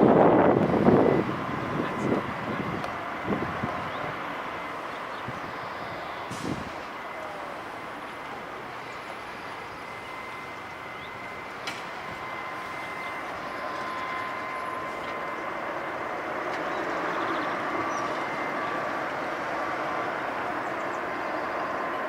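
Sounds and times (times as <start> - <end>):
jet engines rushing with whine: 0.0 - 22.0.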